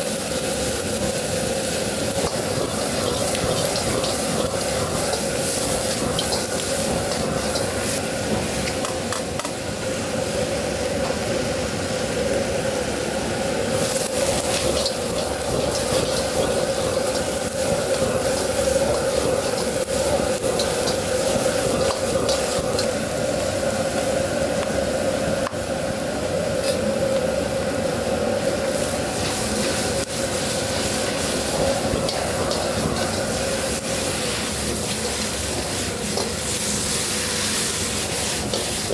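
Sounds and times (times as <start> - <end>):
wok range drone: 0.0 - 10.8, 12.2 - 38.9
seafood sizzling in a wok: 0.0 - 38.9.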